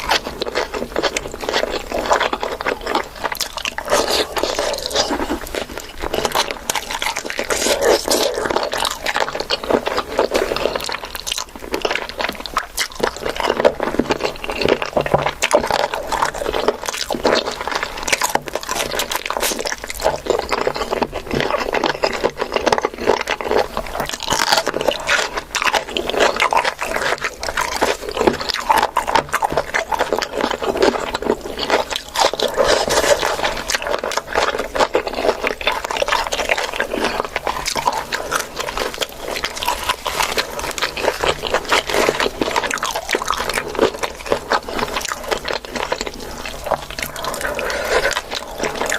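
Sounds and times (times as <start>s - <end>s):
person chewing and crunching food: 0.0s - 48.9s.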